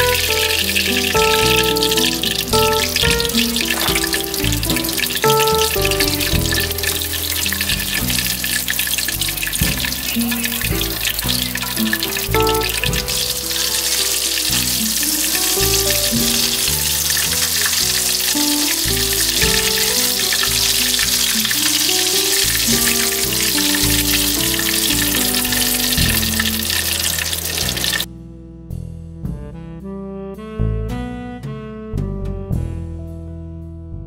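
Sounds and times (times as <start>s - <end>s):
hot oil sizzling in a wok: 0.0s - 28.1s
background music: 0.0s - 34.0s.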